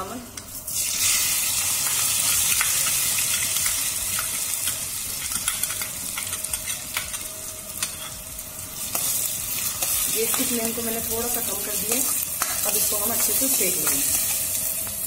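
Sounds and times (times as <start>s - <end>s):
grains sizzling in hot oil: 0.4s - 15.0s.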